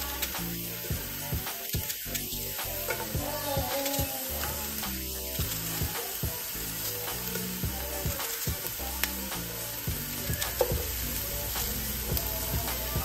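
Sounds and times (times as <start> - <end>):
background music with low bass: 0.0 - 13.0
food sizzling in a frying pan: 0.0 - 13.0.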